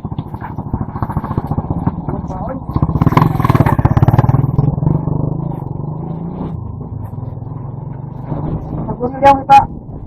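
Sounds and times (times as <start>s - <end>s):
vehicle engine pulsing: 0.0s - 10.0s.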